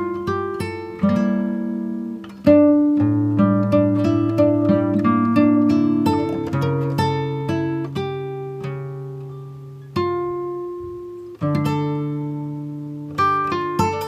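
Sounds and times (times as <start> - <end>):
plucked acoustic guitar: 0.0 - 14.0.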